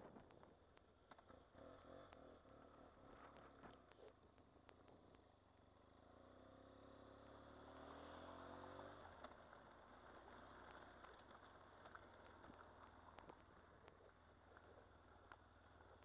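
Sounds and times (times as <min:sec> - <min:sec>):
faint motorcycle engine accelerating: 0:00.0 - 0:16.0
low road and wind hum: 0:00.0 - 0:16.0.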